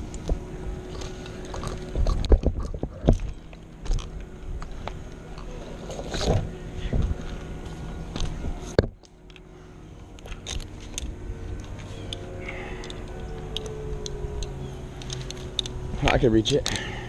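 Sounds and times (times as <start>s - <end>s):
climbing gear clicking and knocking: 0.0s - 17.0s
steady background hum: 0.0s - 17.0s.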